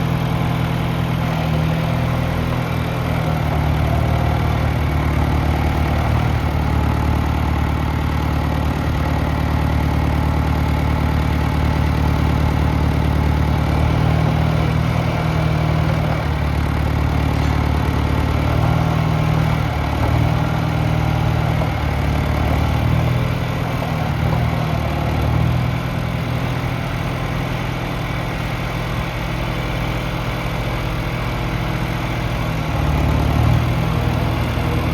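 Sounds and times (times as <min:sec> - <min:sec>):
tractor engine idling: 0:00.0 - 0:34.9.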